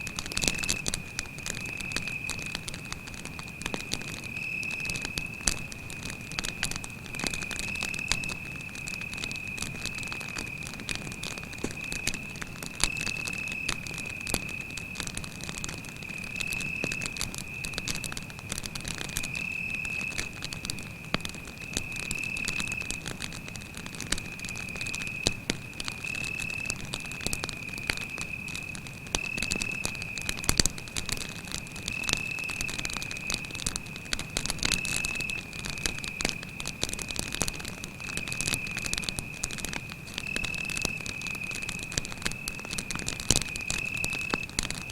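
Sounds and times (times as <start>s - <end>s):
campfire crackling and popping: 0.0s - 44.9s
cricket trilling: 0.2s - 44.9s.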